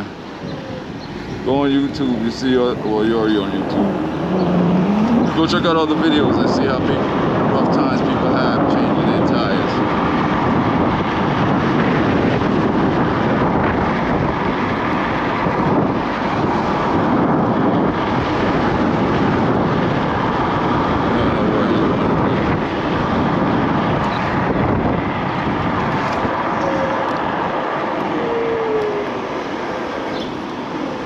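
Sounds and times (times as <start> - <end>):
road noise: 0.0 - 31.0
wind on microphone: 0.0 - 31.0.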